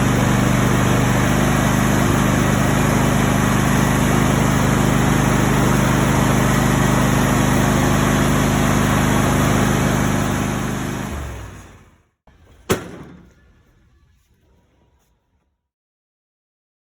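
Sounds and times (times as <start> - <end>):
engine idling: 0.0 - 15.1
engine shutting off: 0.0 - 15.6.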